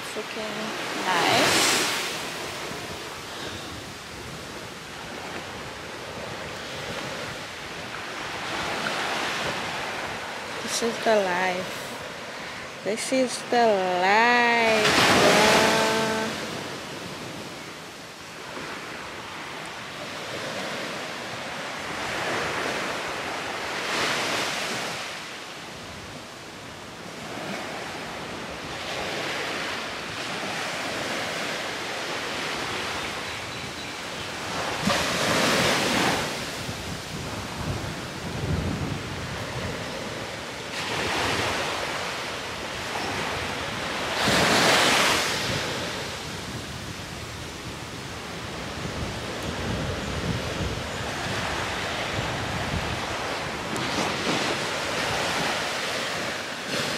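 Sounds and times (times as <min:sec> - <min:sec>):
wind on microphone: 0:00.0 - 0:17.8, 0:27.0 - 0:56.9
sea waves washing on shore: 0:00.0 - 0:56.9.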